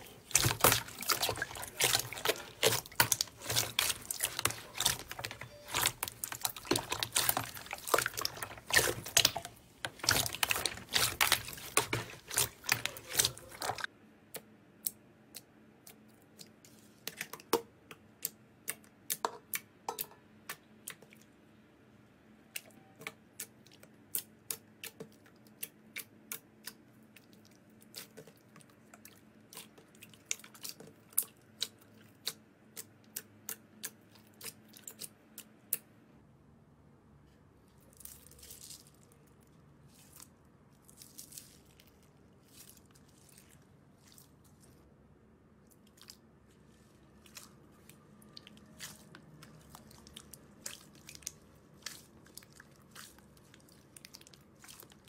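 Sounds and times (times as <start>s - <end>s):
wet slime crackling and squelching: 0.0s - 13.9s, 22.5s - 35.8s, 37.6s - 55.0s.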